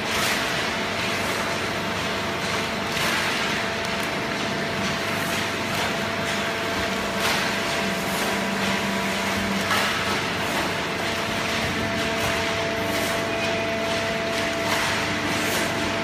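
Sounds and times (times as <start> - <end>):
baling machine hum and hiss: 0.0 - 16.0
machinery clatters: 0.0 - 16.0.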